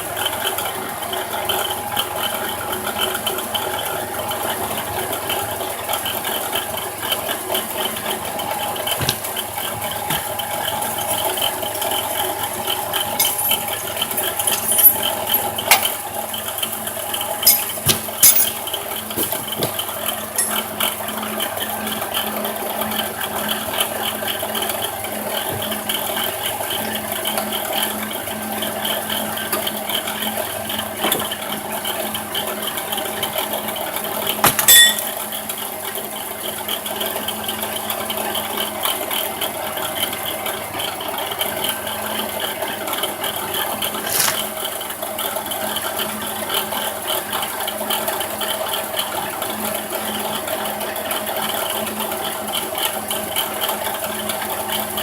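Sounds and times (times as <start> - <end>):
alternator rattling whir: 0.0 - 46.2.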